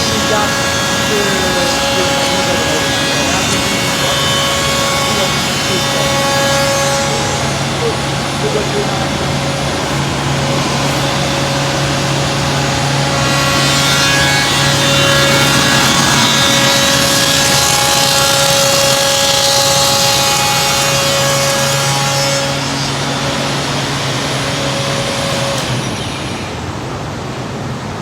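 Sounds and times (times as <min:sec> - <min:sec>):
high spindle whine with cutting: 0:00.0 - 0:28.0
machine humming: 0:00.0 - 0:28.0.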